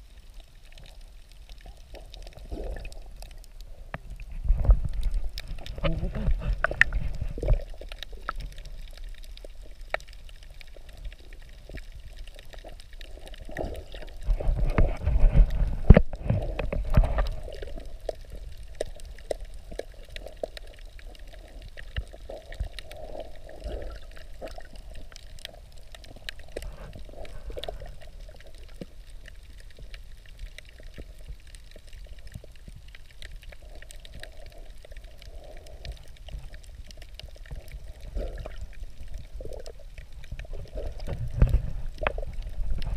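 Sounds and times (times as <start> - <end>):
sharp underwater clicks: 0.7 - 42.9
muffled underwater noise: 1.8 - 42.9.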